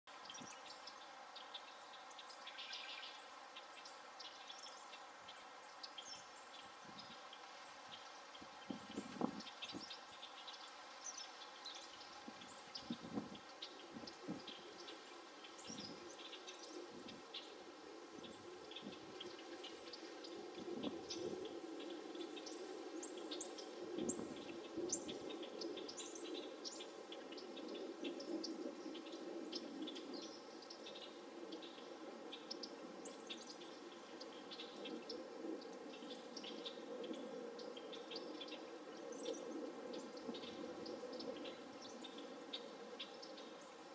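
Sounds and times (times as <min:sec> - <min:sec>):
background hiss: 0:00.1 - 0:43.9
small birds chirping: 0:00.1 - 0:43.9.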